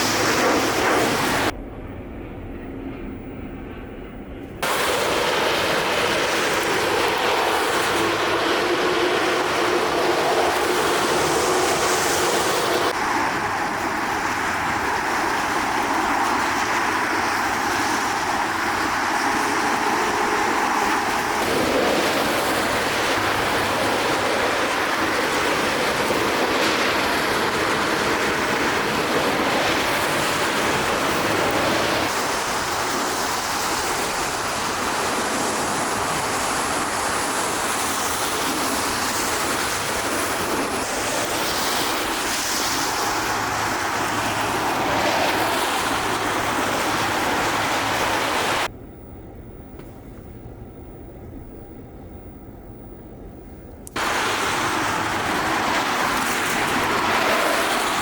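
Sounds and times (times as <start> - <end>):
loud engine roar with hiss: 0.0 - 1.6, 4.6 - 48.7, 53.9 - 58.0.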